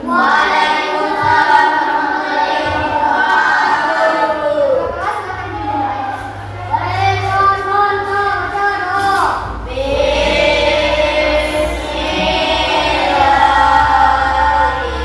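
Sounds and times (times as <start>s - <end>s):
children singing in chorus: 0.0s - 15.0s.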